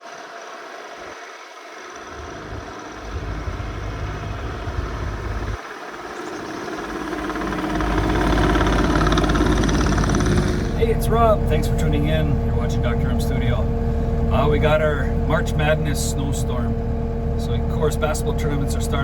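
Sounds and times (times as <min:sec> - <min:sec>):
diesel loader engine running: 0:02.0 - 0:19.0.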